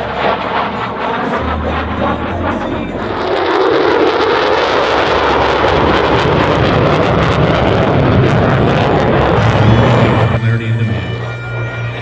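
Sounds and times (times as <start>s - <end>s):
jet engine roaring: 0.0s - 12.0s
low tone dropping in pitch: 0.0s - 12.0s.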